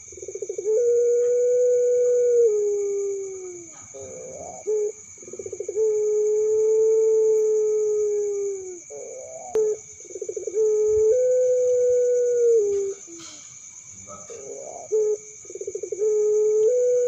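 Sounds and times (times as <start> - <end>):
crickets trilling: 0.0 - 17.0
dove cooing: 0.0 - 17.0.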